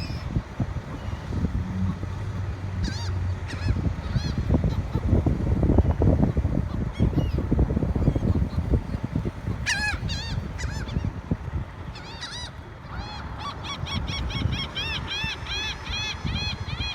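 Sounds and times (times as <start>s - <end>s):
birds calling: 0.0s - 16.9s.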